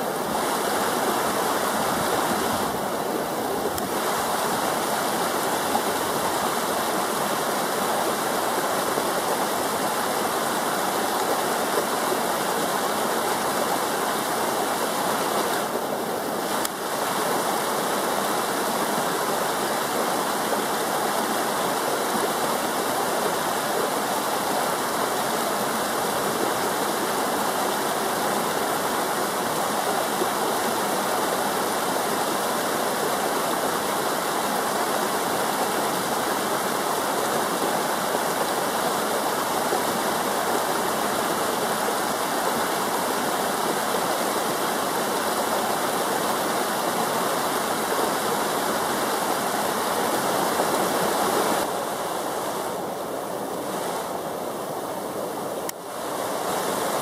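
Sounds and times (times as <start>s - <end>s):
river water rushing over rapids: 0.0s - 57.0s.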